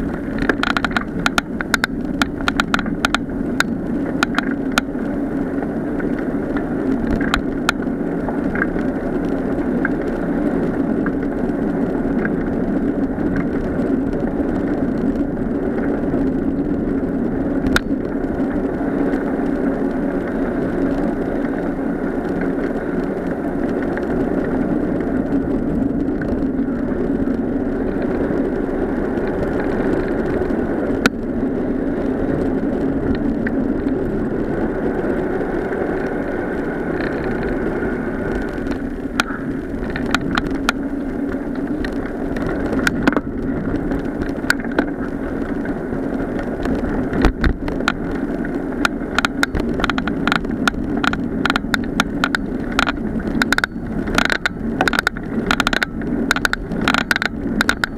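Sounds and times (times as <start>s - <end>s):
bicycle tyres humming: 0.0s - 57.9s
tyres clicking on gravel: 0.0s - 57.9s.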